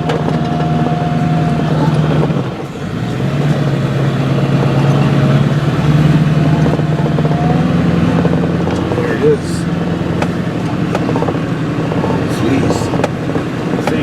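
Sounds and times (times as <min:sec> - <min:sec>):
road noise: 0:00.0 - 0:14.0
vehicle engine drone: 0:00.0 - 0:14.0.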